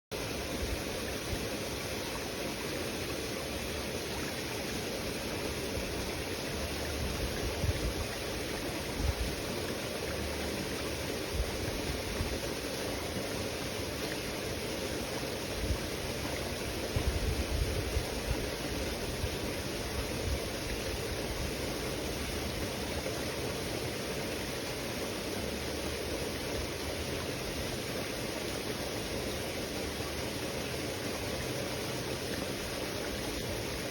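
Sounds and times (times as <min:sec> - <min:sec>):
water rushing: 0:00.1 - 0:33.9.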